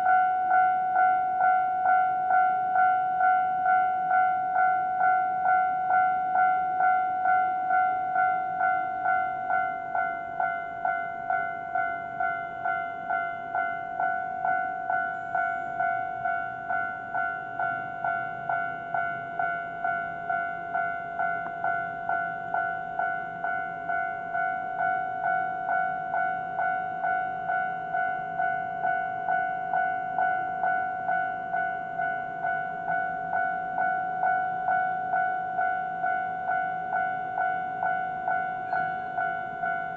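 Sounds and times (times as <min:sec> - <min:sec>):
level-crossing warning bell: 0:00.0 - 0:39.9.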